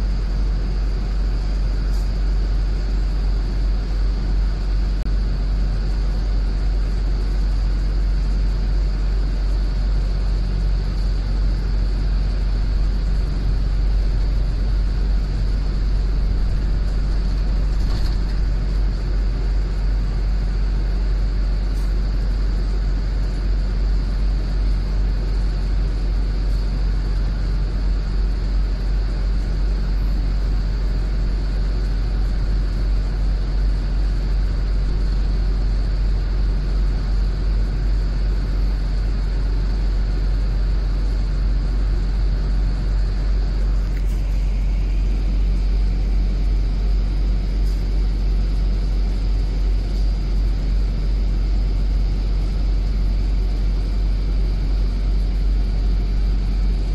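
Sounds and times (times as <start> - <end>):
bus drivetrain and road rumble: 0.0 - 56.9
faint climbing whine: 0.0 - 56.9
faint high whine: 0.0 - 56.9.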